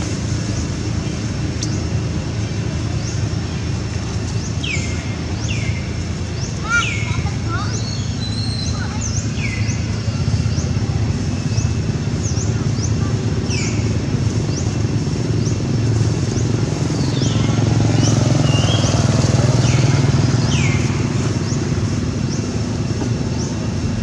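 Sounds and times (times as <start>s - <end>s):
motor engine rumbling: 0.0s - 24.0s.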